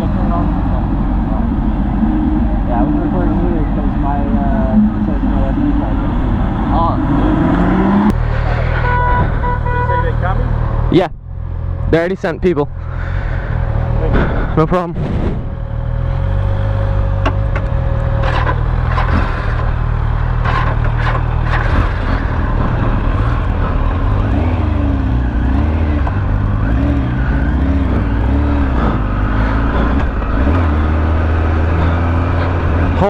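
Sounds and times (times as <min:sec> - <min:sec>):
vehicle engines idling: 0:00.0 - 0:33.0.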